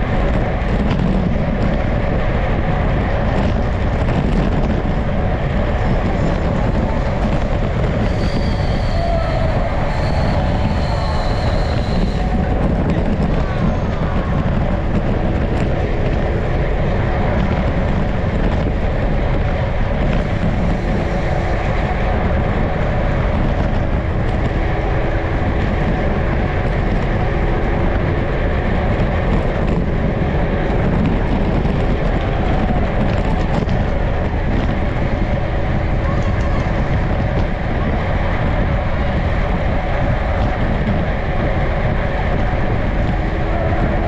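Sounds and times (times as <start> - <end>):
bicycle road noise: 0.0 - 44.0
wind rushing: 0.0 - 44.0.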